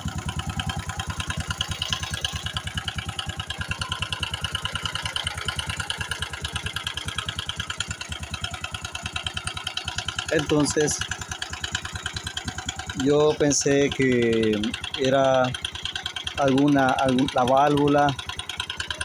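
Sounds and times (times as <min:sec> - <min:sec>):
motorcycle engine idling: 0:00.0 - 0:19.0
rapid metallic engine knock: 0:00.0 - 0:19.0.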